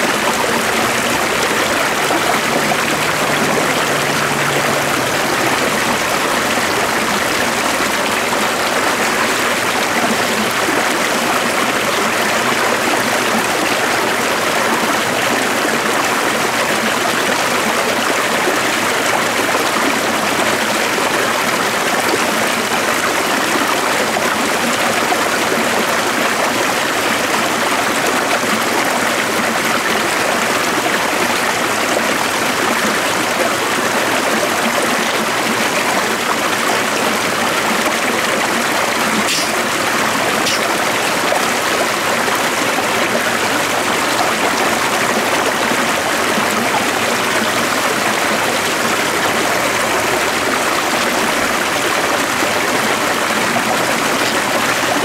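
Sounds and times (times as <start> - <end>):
running water stream: 0.0 - 55.0.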